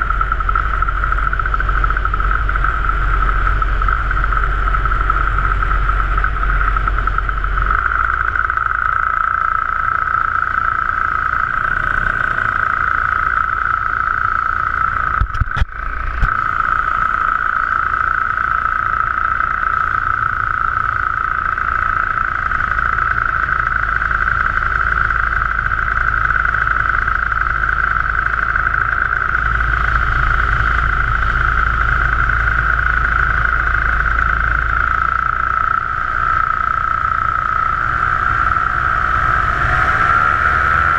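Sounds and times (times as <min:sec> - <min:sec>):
paramotor engine droning: 0:00.0 - 0:40.9.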